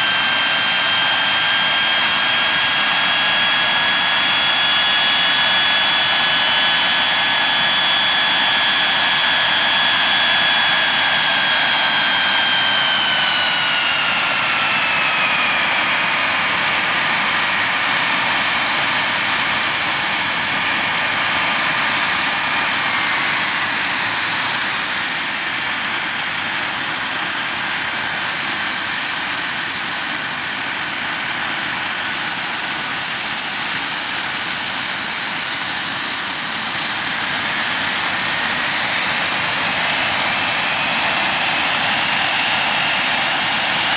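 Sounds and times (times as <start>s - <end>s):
jet engines running with whine: 0.0s - 43.9s.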